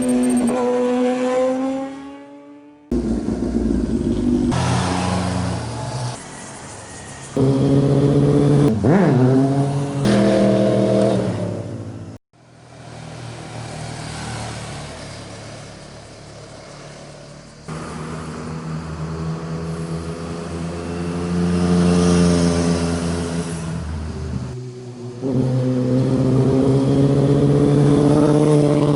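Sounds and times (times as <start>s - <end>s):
motorcycles passing at speed: 0.0s - 11.9s, 12.7s - 28.9s.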